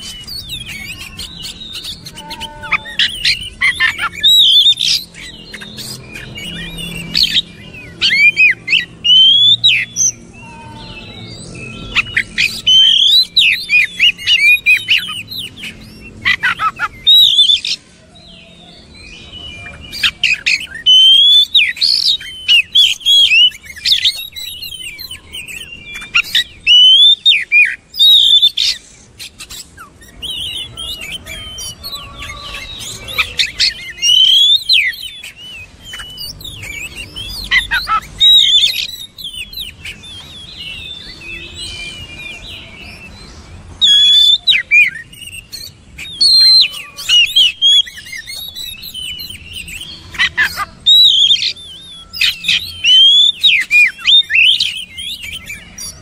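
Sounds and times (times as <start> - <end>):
bird singing whistled phrases: 0.0 - 56.0.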